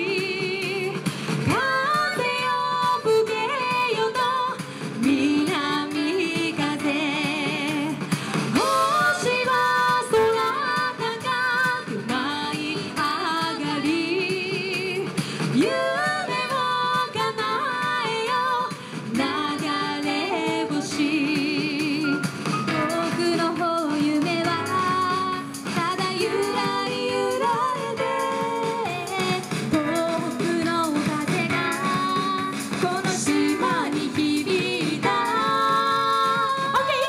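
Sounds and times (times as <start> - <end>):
musical accompaniment: 0.0 - 37.0
women singing with vibrato: 0.0 - 37.0.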